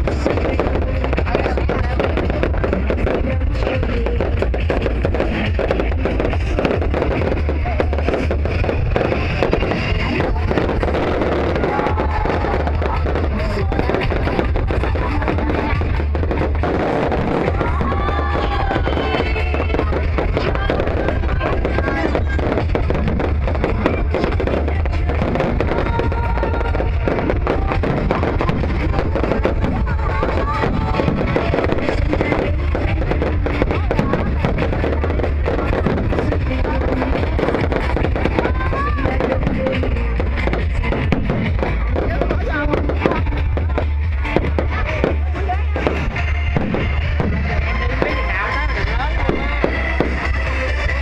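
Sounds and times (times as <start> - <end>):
fireworks crackling and popping: 0.0 - 51.0
low rumble: 0.0 - 51.0
music playing: 0.0 - 51.0.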